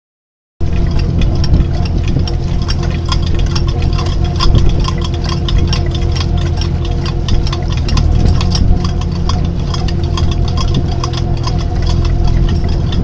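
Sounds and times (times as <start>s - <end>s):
boat engine drone: 0.6s - 13.0s
jigging machine reels clicking: 0.6s - 13.0s.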